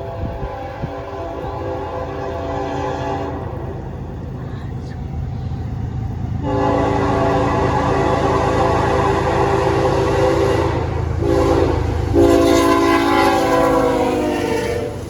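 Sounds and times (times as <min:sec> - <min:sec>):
locomotive air horn blasts: 0:00.0 - 0:03.9, 0:06.4 - 0:15.0
train rumbling past: 0:00.0 - 0:15.0.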